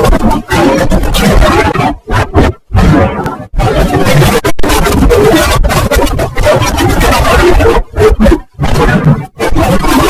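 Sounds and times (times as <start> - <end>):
loud distorted music: 0.0 - 10.0.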